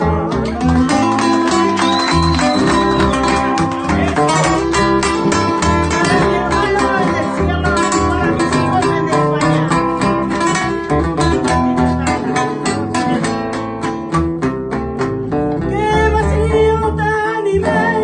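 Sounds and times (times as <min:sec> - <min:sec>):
acoustic guitar ballad: 0:00.0 - 0:18.0.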